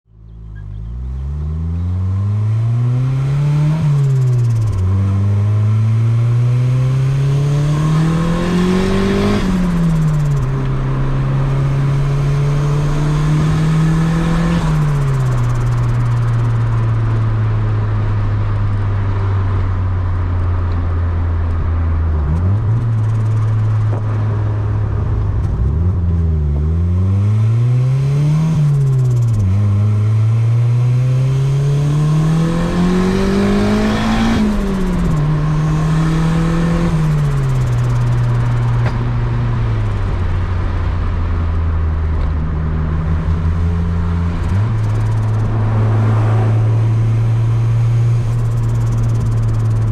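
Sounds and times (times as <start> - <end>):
car engine revving: 0.3 - 49.9.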